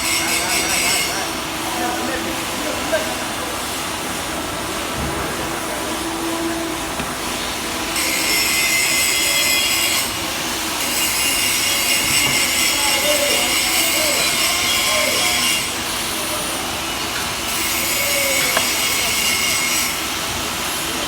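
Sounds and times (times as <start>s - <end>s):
workshop din: 0.0s - 21.0s.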